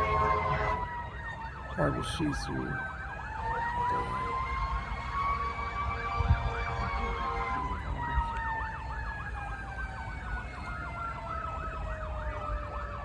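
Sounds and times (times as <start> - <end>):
freight cars rumbling over crossing: 0.0 - 13.0
siren long falling tone: 0.0 - 13.0
siren yelping: 0.0 - 13.0.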